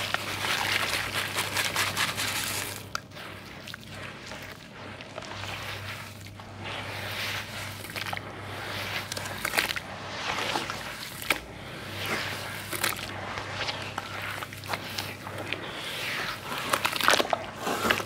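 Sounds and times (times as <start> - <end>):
hands kneading wet paste: 0.0 - 18.0.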